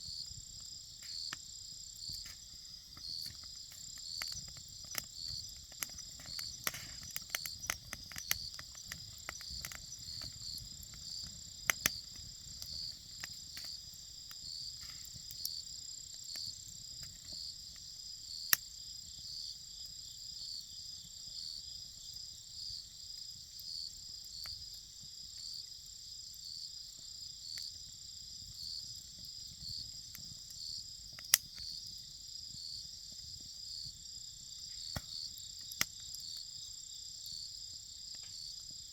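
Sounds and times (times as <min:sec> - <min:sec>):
wood fire crackling and popping: 0:00.0 - 0:20.2, 0:23.4 - 0:38.9
crickets trilling: 0:00.0 - 0:38.9.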